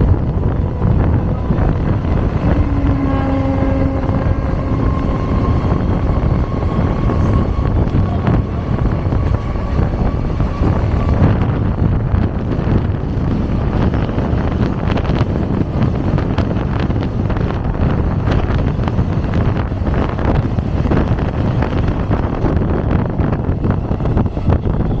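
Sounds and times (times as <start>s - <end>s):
train wheels rumbling on rails: 0.0s - 25.0s
wind buffeting microphone: 0.0s - 25.0s.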